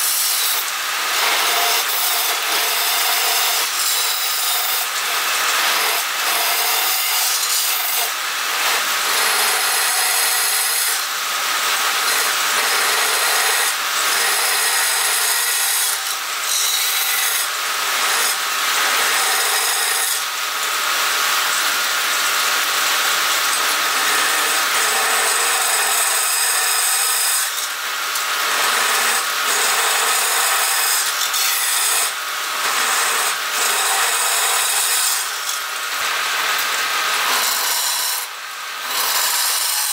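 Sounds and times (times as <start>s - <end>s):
lathe tool scraping wood: 0.0s - 39.9s.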